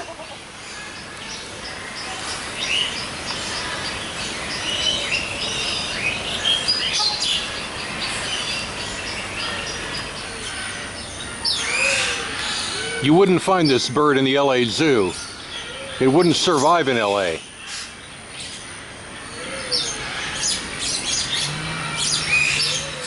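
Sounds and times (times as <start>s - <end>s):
birds chirping: 0.0s - 23.0s
steady background noise: 0.0s - 23.0s.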